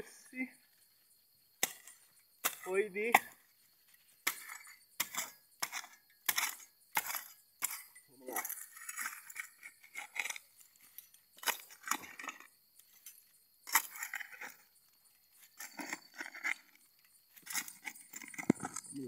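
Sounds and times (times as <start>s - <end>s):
digging tool scraping stony soil: 1.6s - 19.0s.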